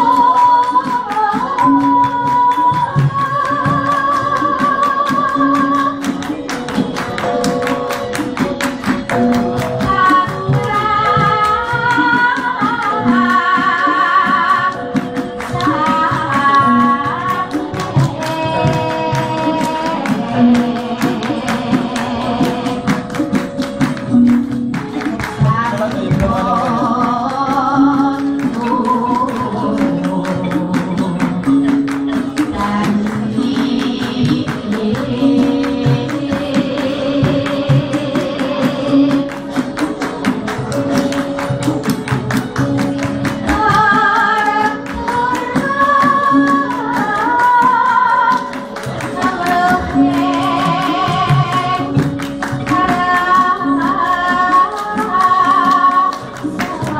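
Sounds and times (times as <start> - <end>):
held metallophone notes: 0.0 - 56.9
rapid percussive strokes: 0.0 - 56.9.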